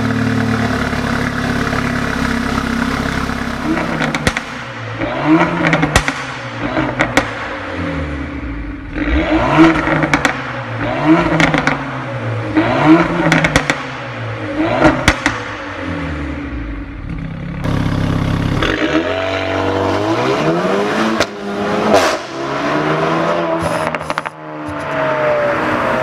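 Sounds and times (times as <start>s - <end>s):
car engine revving with exhaust crackles: 0.0s - 26.0s.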